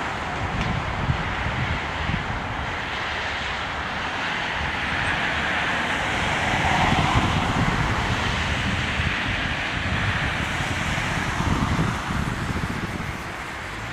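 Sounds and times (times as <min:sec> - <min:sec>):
jet engines roaring: 0:00.0 - 0:13.9
wind buffeting microphone: 0:00.0 - 0:13.9.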